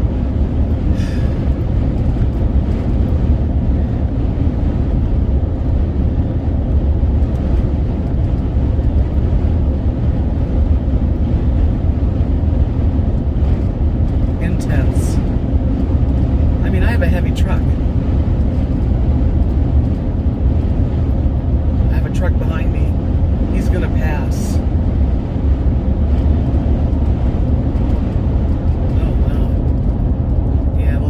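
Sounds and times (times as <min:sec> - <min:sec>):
road noise inside vehicle: 0:00.0 - 0:31.0
wind buffeting vehicle: 0:00.0 - 0:31.0.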